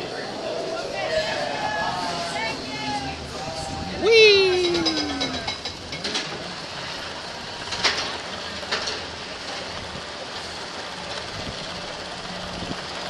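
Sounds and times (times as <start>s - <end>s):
roller coaster rumble: 0.0s - 13.0s.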